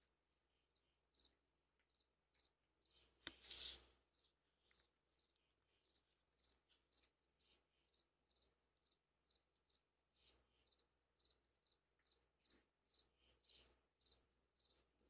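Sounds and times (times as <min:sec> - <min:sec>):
faint crickets chirping: 0:00.0 - 0:15.0.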